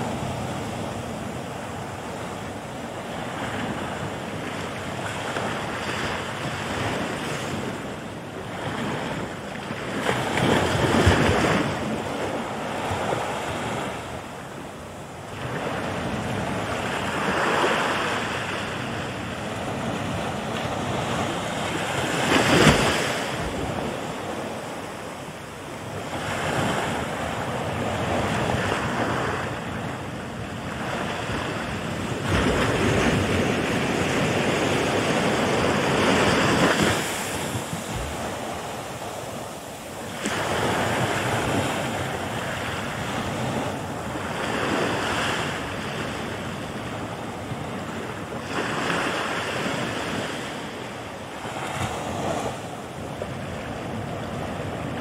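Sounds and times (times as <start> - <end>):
waves breaking and washing ashore: 0.0 - 55.0.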